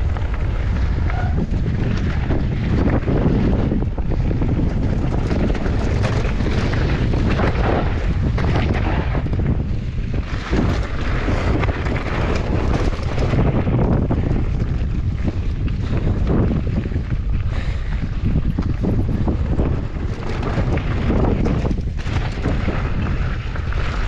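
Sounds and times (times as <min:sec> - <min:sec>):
bike clattering over bumps: 0:00.0 - 0:24.0
tyres rumbling over ground: 0:00.0 - 0:24.0
wind buffeting microphone: 0:00.0 - 0:24.0.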